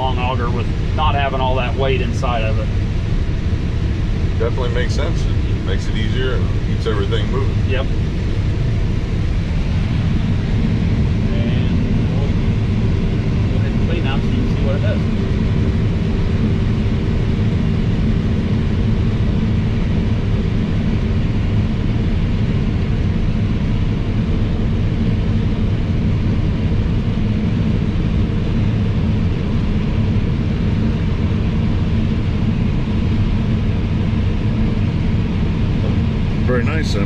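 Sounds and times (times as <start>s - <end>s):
combine engine and threshing drone: 0.0s - 37.0s.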